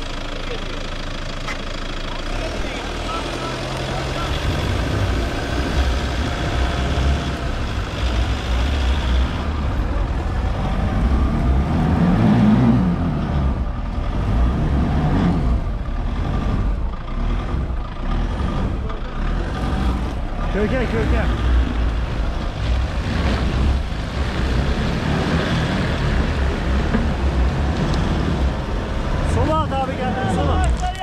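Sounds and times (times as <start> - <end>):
diesel engine running hard: 0.0 - 31.0.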